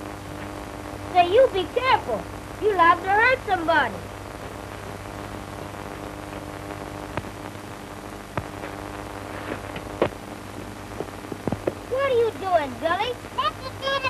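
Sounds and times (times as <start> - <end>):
film soundtrack hiss and hum: 0.0 - 14.0.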